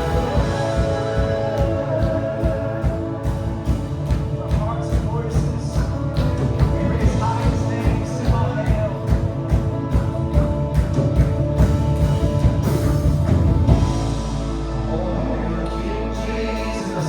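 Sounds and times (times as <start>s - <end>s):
steady drum beat: 0.0s - 15.0s
held low chord: 0.0s - 17.0s
worship band playing rock song: 0.0s - 17.0s.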